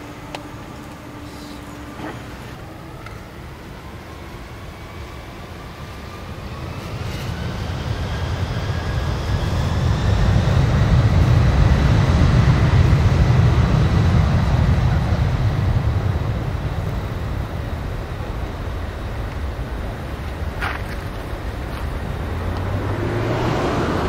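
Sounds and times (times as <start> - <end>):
jet engines on takeoff: 0.0 - 24.0.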